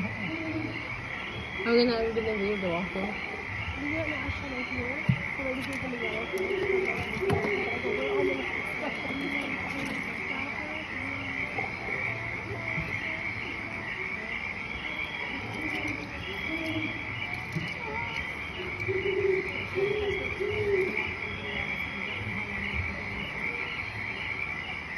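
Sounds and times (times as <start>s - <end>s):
crickets chirping: 0.0s - 24.9s
low hoot-like calls: 0.0s - 24.9s.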